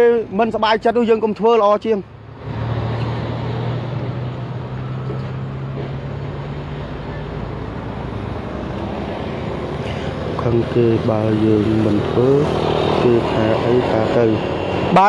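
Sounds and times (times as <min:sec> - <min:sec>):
road noise hiss: 0:00.2 - 0:15.0
dump truck diesel engine driving past: 0:02.0 - 0:15.0.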